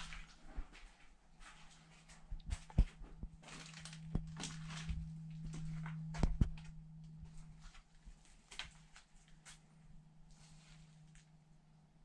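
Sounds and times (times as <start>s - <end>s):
footsteps scuffing over debris: 0.0s - 9.6s
low hum: 0.0s - 12.0s.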